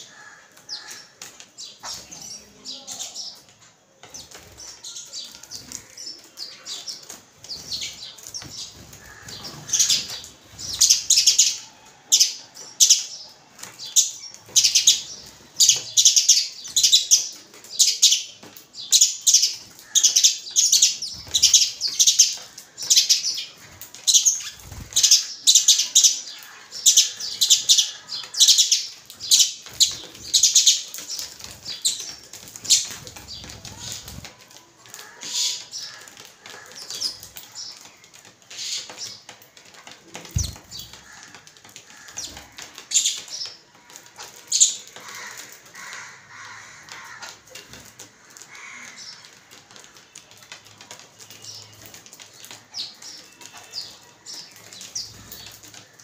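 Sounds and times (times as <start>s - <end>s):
birds chirping harshly: 0.0s - 39.4s, 40.2s - 50.5s.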